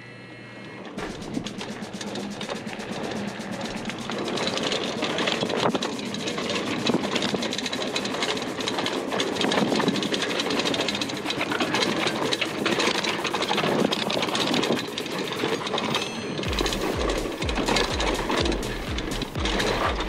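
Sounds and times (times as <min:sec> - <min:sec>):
mountain bike rattling on dirt: 0:01.0 - 0:20.0.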